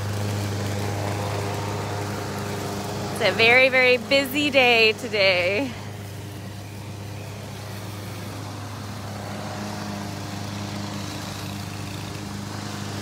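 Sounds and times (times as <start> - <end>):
lawn mower engine: 0.0 - 13.0
string trimmer engine: 0.0 - 13.0.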